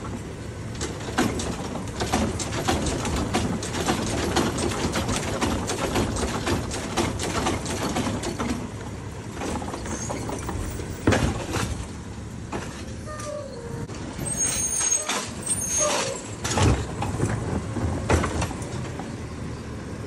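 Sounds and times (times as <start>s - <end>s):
truck engine hum: 0.0s - 20.0s.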